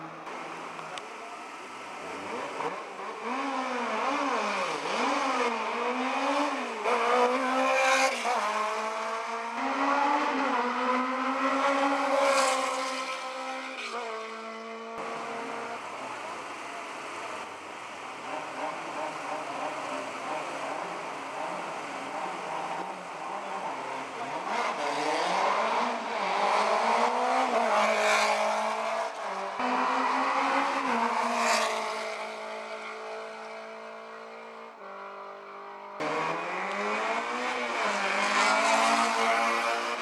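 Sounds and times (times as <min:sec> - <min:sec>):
race car engine revving: 0:00.1 - 0:40.0.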